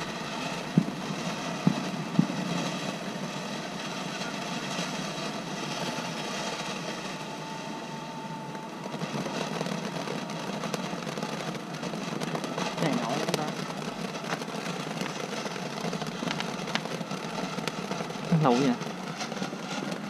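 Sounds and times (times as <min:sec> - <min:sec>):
fireworks hissing: 0:00.0 - 0:20.0
fireworks popping: 0:00.0 - 0:20.0.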